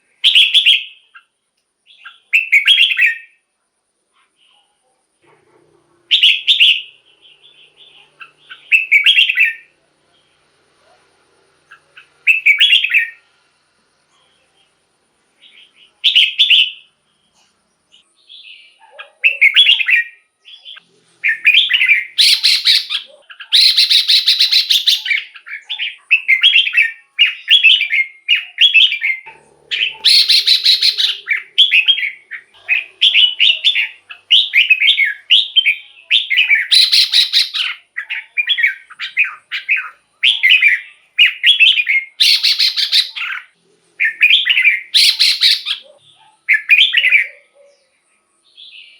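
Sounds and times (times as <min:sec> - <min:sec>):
bulbul singing: 0:00.0 - 0:03.4, 0:06.1 - 0:10.4, 0:11.7 - 0:13.3, 0:15.4 - 0:48.9.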